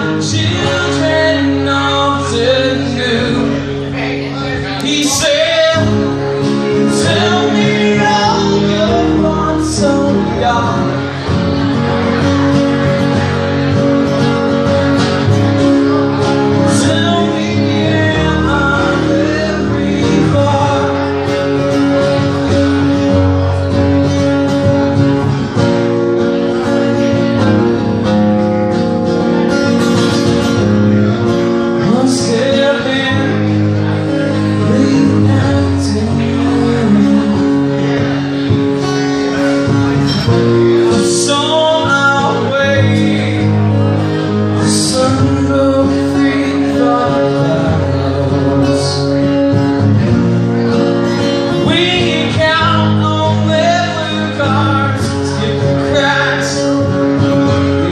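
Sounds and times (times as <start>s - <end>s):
man singing: 0.0s - 25.8s, 29.2s - 57.9s
strummed acoustic guitars: 0.0s - 57.9s.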